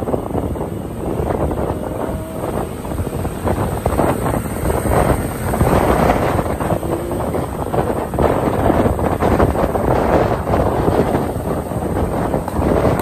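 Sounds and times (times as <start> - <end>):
motorcycle and road drone: 0.0 - 13.0
wind buffeting microphone: 0.0 - 13.0.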